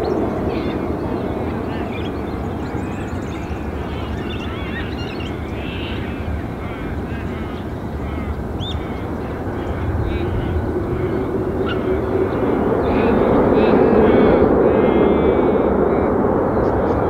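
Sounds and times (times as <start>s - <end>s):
small birds chirping: 0.0s - 15.4s
distant jet engine rumble: 0.0s - 17.0s.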